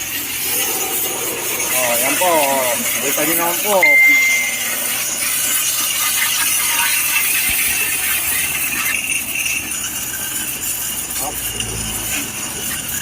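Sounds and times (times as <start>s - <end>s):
pressure washer spraying: 0.0s - 13.0s.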